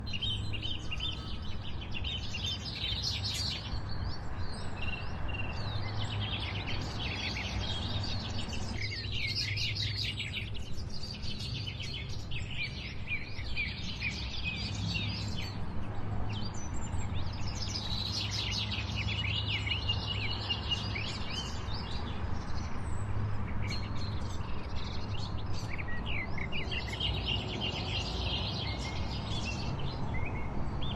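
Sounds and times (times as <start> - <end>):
small songbirds chirping: 0.0 - 30.9.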